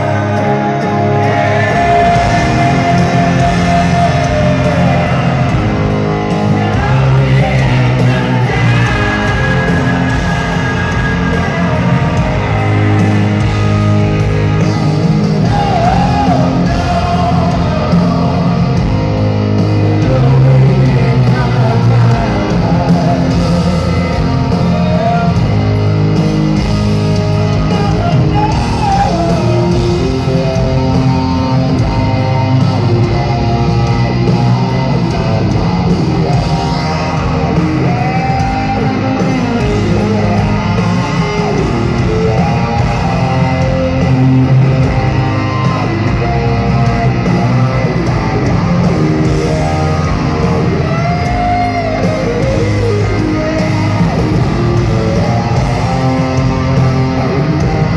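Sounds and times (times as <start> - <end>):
live rock band: 0.0 - 57.9.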